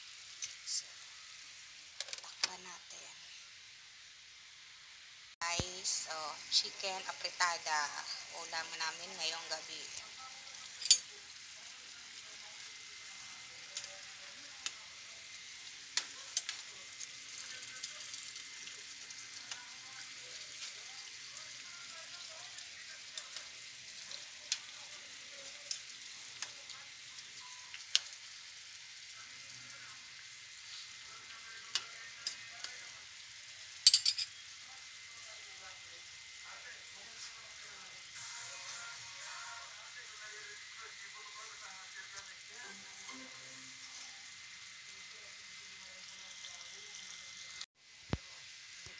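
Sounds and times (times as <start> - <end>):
sauce simmering in a pan: 0.0 - 2.0, 3.4 - 48.9.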